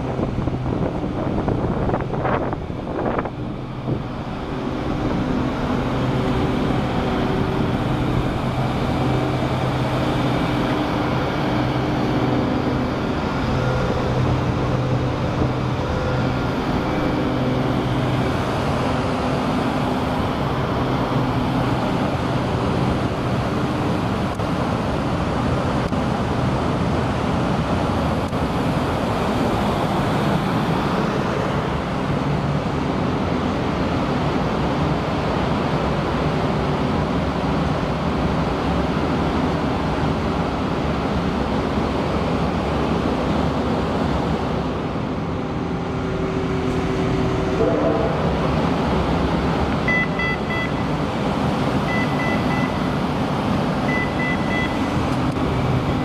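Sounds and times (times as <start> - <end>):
diesel generator engine drone: 0.0 - 56.0.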